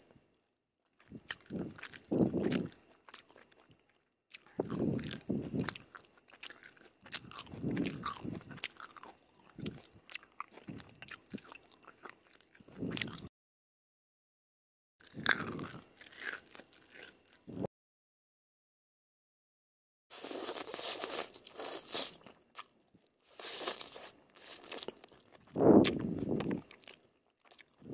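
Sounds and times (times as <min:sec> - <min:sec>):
person chewing noodles: 0:01.0 - 0:13.3, 0:15.0 - 0:17.7, 0:20.1 - 0:27.9.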